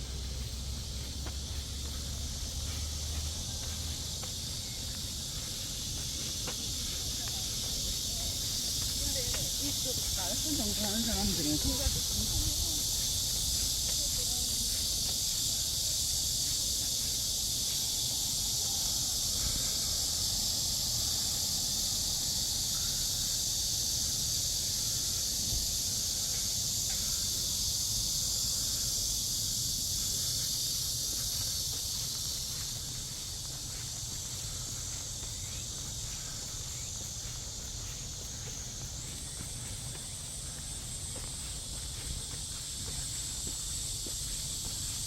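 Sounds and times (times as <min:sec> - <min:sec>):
insects buzzing shrilly: 0:00.0 - 0:45.0.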